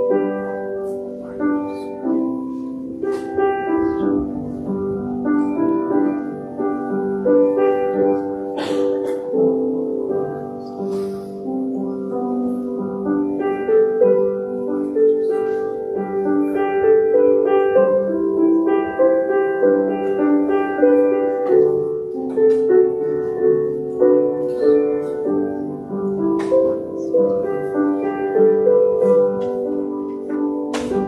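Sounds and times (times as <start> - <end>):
keyboard instrumental music: 0.0 - 31.0.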